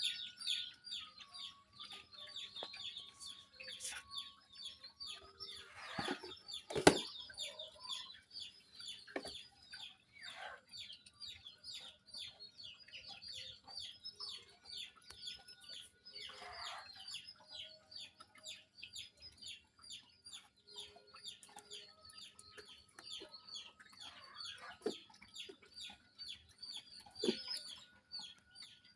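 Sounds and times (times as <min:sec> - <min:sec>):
chickens clucking and cheeping: 0:00.0 - 0:28.9.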